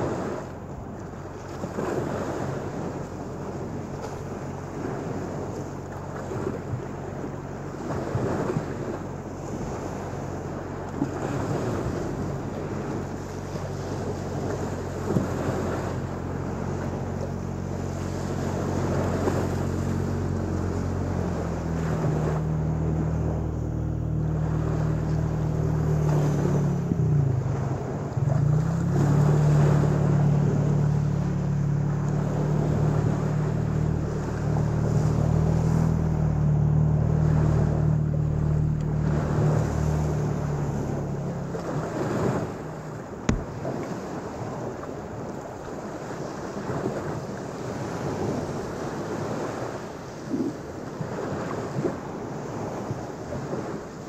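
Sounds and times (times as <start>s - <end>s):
low engine hum: 0.0s - 54.0s
small waves washing on beach: 0.0s - 54.0s
wind on microphone: 0.0s - 54.0s.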